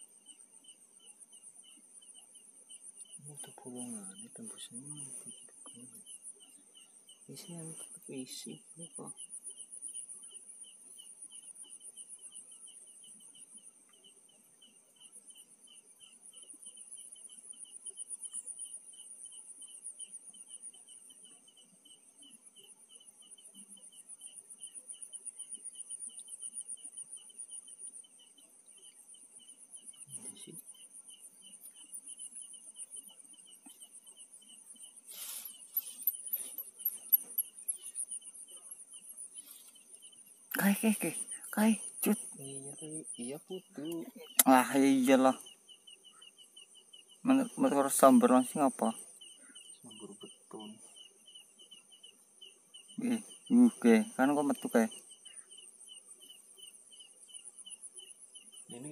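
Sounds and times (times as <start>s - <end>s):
crickets and insects trilling: 0.0s - 58.9s.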